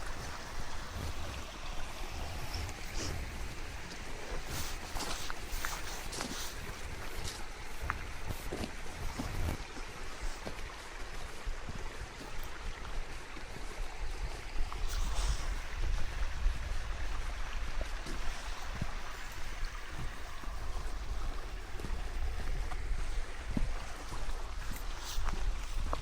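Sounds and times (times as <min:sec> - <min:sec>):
creek water rushing: 0:00.0 - 0:26.0
wind buffeting microphone: 0:00.0 - 0:26.0.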